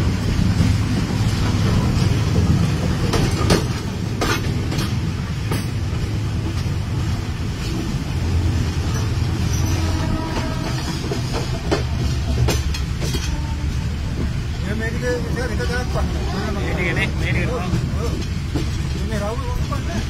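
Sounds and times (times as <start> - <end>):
wheels clacking over rail joints: 0.0 - 20.0
wheels rumbling on rail: 0.0 - 20.0.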